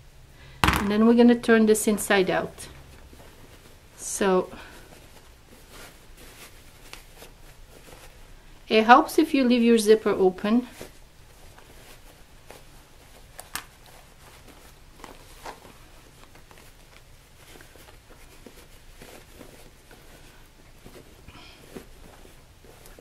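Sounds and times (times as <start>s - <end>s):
fabric rustling and crinkling: 0.9s - 23.0s.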